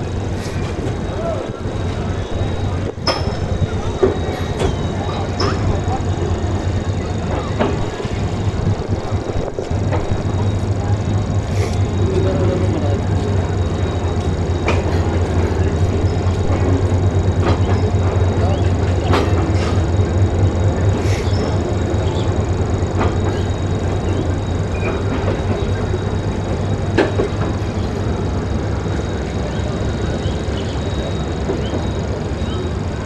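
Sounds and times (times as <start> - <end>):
train rumbling on rails: 0.0 - 33.0
wheels clanking over rail joints: 0.0 - 33.0.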